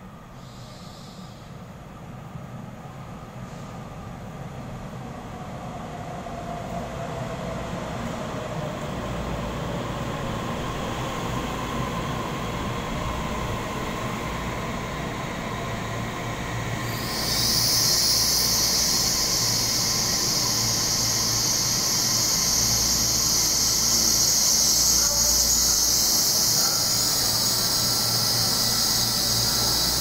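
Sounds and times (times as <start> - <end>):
train rumbling: 1.6 - 30.0.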